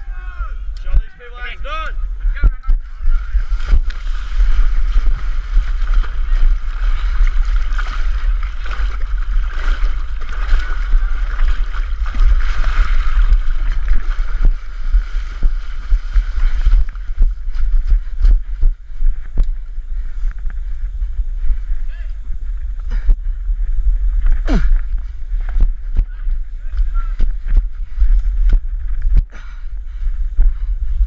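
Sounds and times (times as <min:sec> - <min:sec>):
steady rushing noise: 0:00.0 - 0:31.0
wind rumbling on microphone: 0:00.0 - 0:31.0.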